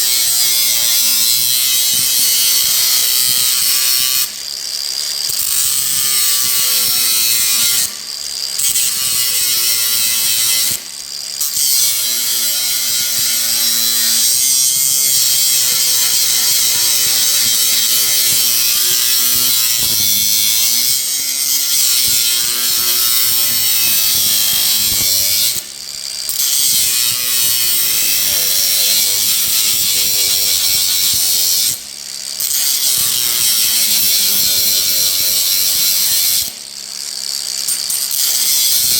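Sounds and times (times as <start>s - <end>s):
power grinder grinding: 0.0s - 38.9s.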